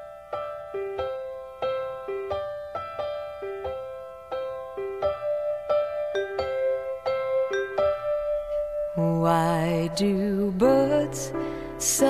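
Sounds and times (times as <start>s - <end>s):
solo piano ballad: 0.0s - 12.0s.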